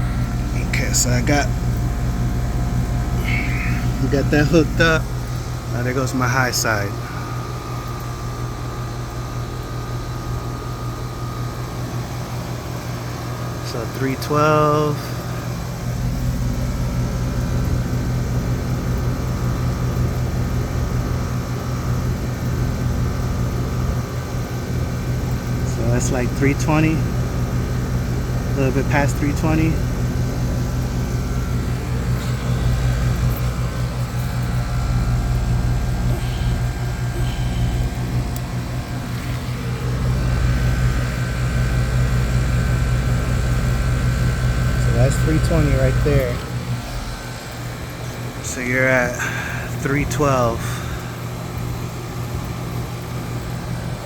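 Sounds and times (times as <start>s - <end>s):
air conditioning unit humming: 0.0s - 54.0s.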